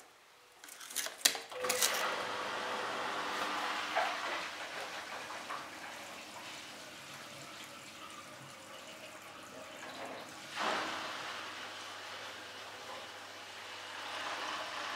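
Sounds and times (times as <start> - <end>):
water swishing in washing machine: 2.3 - 14.9.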